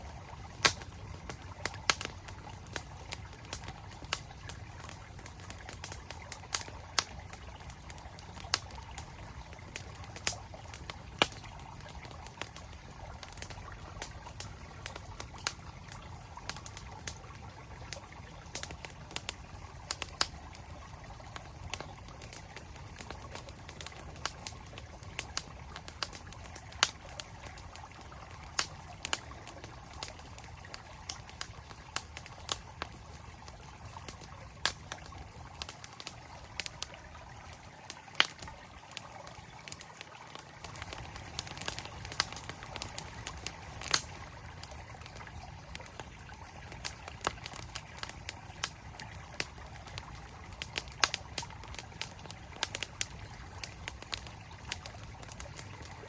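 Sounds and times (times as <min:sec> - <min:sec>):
flowing stream: 0:00.0 - 0:56.0
wood fire crackling: 0:00.0 - 0:56.0.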